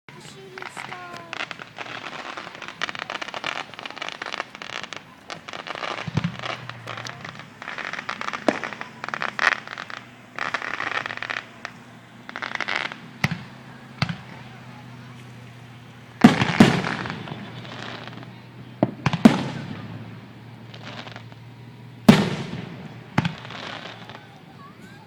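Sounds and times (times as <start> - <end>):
firework bangs: 0.1 - 25.0
fireworks crackling: 0.1 - 25.0.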